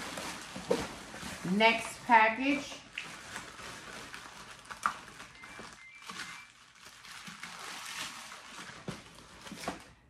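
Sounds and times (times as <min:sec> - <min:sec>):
plastic bag crinkling and tearing: 0:00.0 - 0:10.0.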